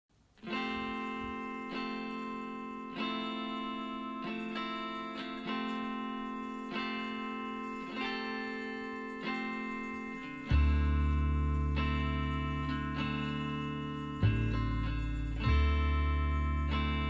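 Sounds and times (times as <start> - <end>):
slow plucked chords: 0.5 - 17.0.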